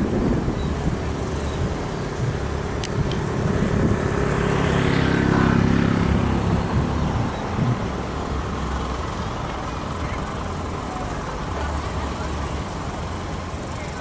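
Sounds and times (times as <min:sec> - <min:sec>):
engine drone: 0:00.0 - 0:14.0
low steady rumble: 0:00.0 - 0:14.0.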